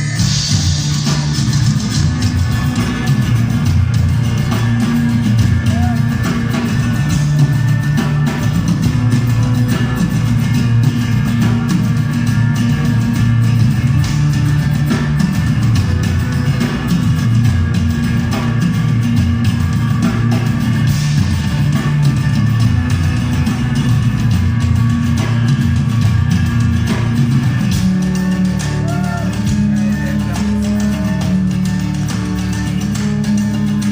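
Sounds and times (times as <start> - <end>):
hand percussion: 0.0 - 33.9
heavy guitar: 0.0 - 33.9
tribal-style drumming: 0.0 - 33.9.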